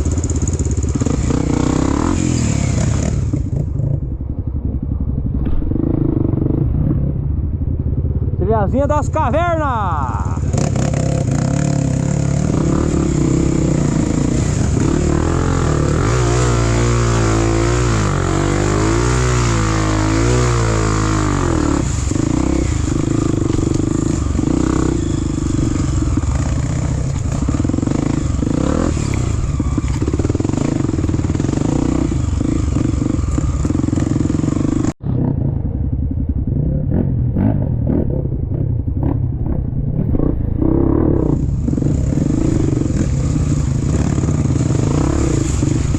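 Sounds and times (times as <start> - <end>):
dirt bike engine revving: 0.0 - 4.0, 8.8 - 35.7, 36.6 - 45.9.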